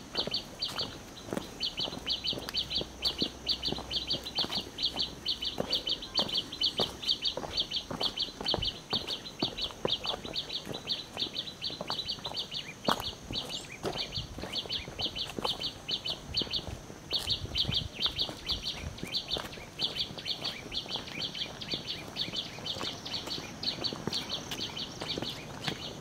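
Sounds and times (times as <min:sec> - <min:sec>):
footsteps on dirt path: 0:00.0 - 0:26.0
small bird chirping: 0:00.1 - 0:26.0.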